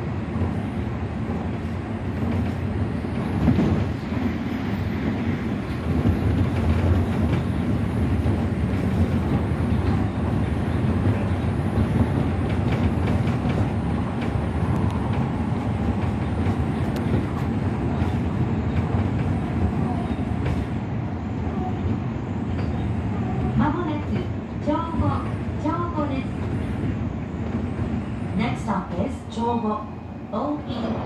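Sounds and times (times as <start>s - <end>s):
oncoming train passing: 0.0s - 31.0s
train wheels rumbling on rail: 0.0s - 31.0s.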